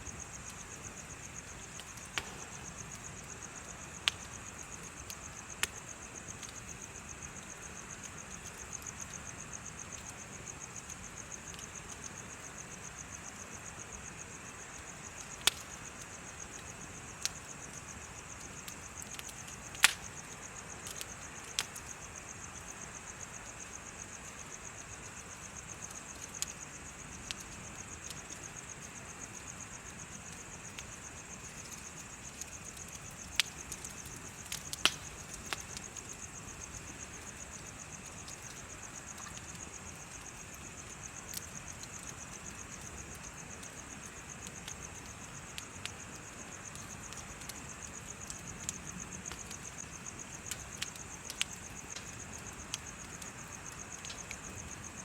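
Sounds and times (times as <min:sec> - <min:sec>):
bonfire crackling: 0:00.0 - 0:55.0
insects chirping: 0:00.0 - 0:55.0.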